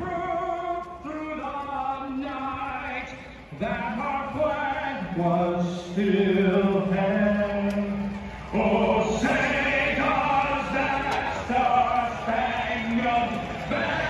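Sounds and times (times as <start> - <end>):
man singing slowly: 0.0 - 14.0.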